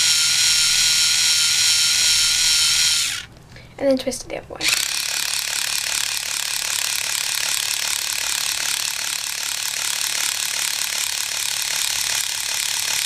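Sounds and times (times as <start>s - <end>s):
small geared motor whirring: 0.0s - 3.3s, 4.6s - 13.0s.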